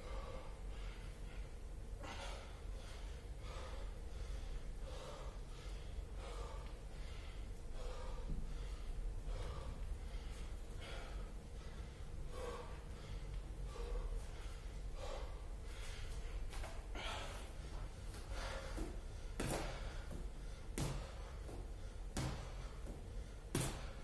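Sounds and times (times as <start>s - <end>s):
low steady hum: 0.0s - 24.0s
man breathing hard: 0.0s - 24.0s.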